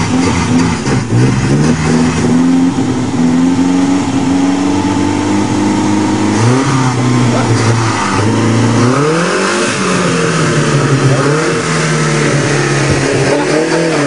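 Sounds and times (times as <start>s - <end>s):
small car engine accelerating: 0.0s - 14.0s.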